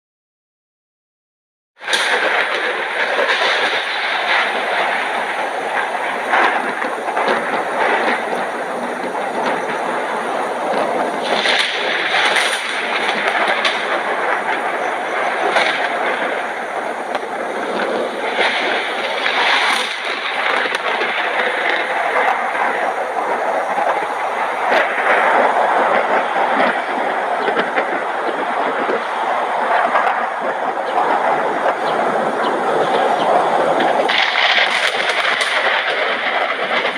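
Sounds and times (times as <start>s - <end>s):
heavy rain pouring: 1.8s - 36.9s.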